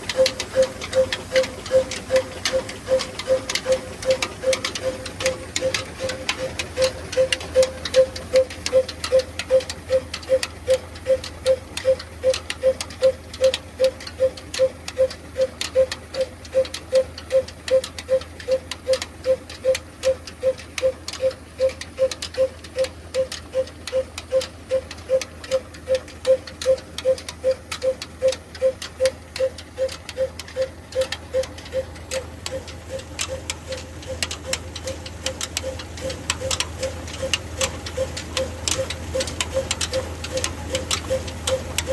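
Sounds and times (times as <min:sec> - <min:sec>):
diesel engine thumping: 0:00.0 - 0:41.9
low mechanical hum: 0:00.0 - 0:41.9
mechanical ticking: 0:00.0 - 0:41.9.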